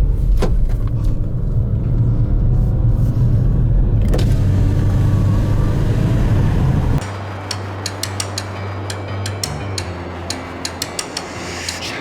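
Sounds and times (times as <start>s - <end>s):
engine and road noise rumble: 0.0s - 12.0s.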